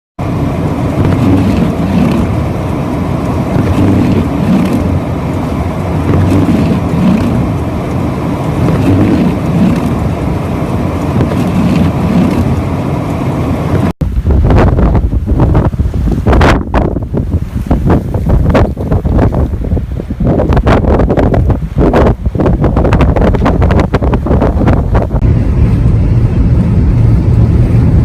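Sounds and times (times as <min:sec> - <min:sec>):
blizzard wind buffeting microphone: 0:00.2 - 0:28.0
deep wind rumble: 0:00.2 - 0:28.0.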